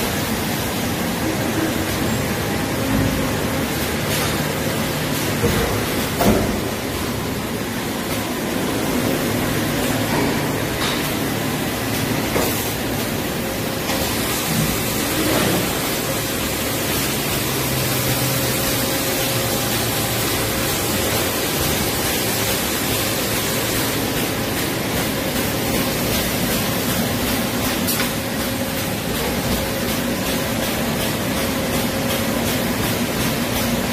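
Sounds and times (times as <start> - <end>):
machine hiss and hum: 0.0 - 33.9.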